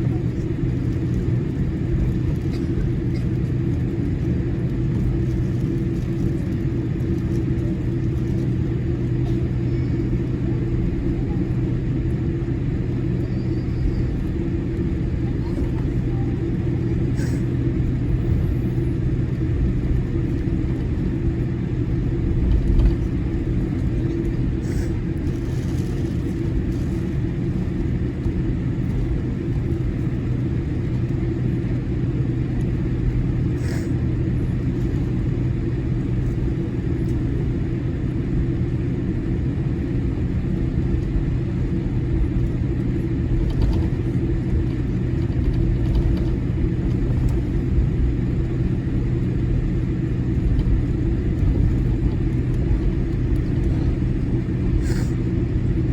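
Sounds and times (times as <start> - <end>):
aircraft cabin rumble: 0.0 - 55.9
constant hum: 0.0 - 55.9.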